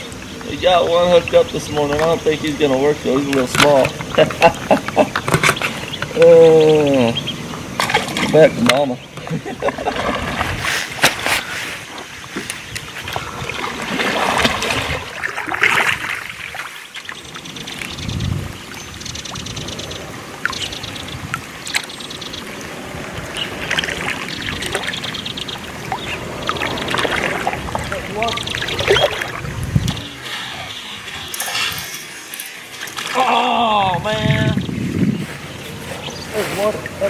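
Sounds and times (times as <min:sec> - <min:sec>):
water lapping against kayak: 0:00.0 - 0:37.0.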